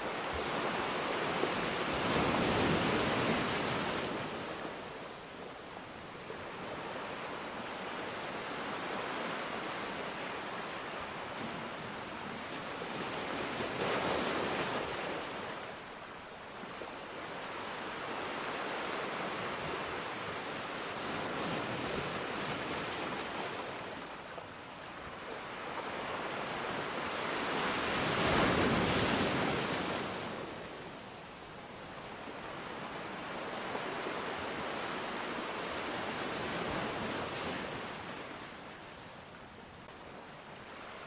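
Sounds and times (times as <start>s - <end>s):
sea waves washing ashore: 0.0s - 41.0s.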